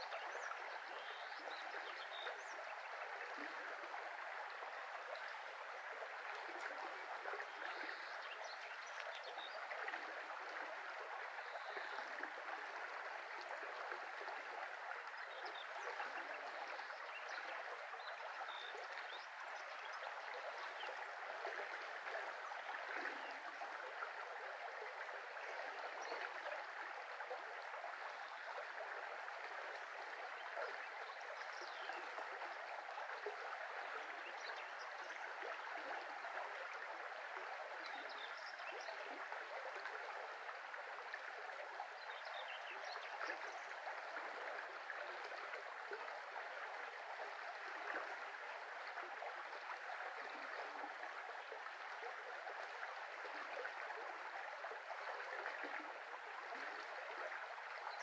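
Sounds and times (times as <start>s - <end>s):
brook flowing over riffles: 0.0s - 58.0s.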